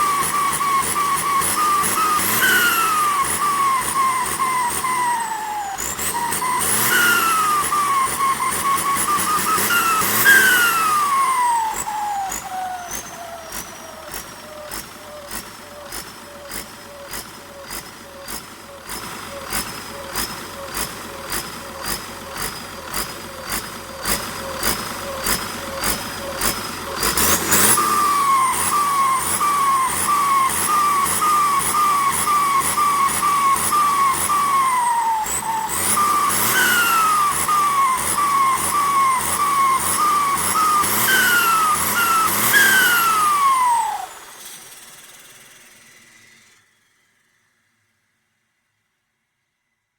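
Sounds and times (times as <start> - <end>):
turbo chirping flutter: 0.0 - 44.7
turbo whistle: 0.0 - 45.2.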